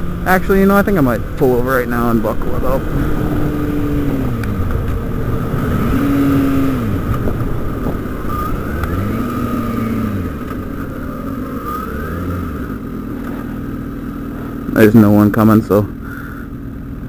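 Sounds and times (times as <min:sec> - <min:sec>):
motorcycle engine running: 0:00.0 - 0:17.0
road and wind rush: 0:00.0 - 0:17.0.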